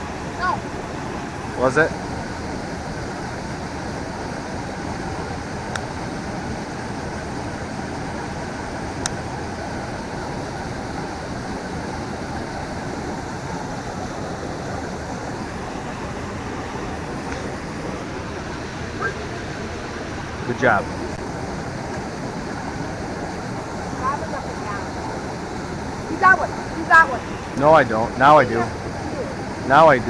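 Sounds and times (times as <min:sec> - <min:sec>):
steady rushing outdoor noise: 0:00.0 - 0:30.0.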